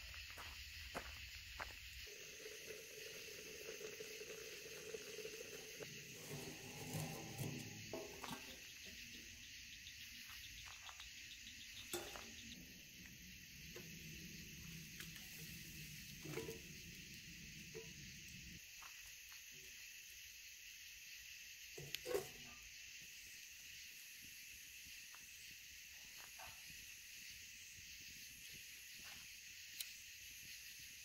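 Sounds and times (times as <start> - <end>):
night insects chirping: 0.0 - 31.0.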